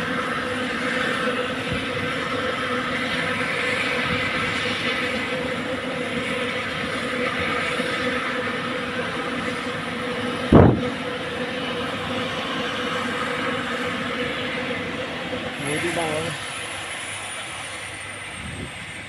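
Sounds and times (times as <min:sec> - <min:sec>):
helicopter engine whine: 0:00.0 - 0:19.0
helicopter rotors rushing: 0:00.0 - 0:19.0.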